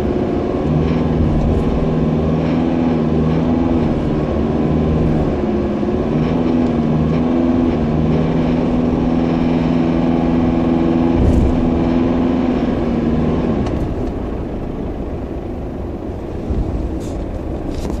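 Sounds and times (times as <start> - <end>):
truck engine low drone: 0.0 - 18.0.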